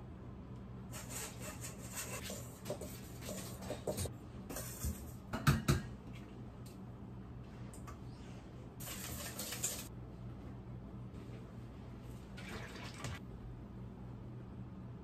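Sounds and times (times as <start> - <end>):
steady low hum: 0.0 - 12.4, 13.2 - 15.0.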